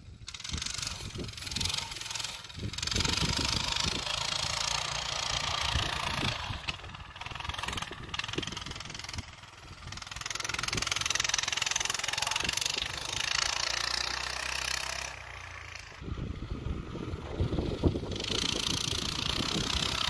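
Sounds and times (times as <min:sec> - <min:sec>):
minibike engine running: 0:00.0 - 0:20.0.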